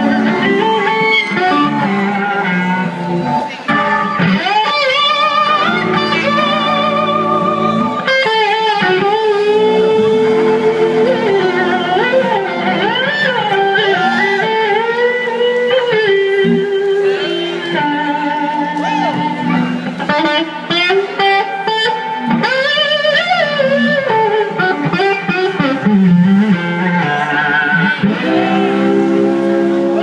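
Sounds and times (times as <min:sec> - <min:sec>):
electric guitar lead gliding notes: 0:00.0 - 0:30.0
live band playing: 0:00.0 - 0:30.0.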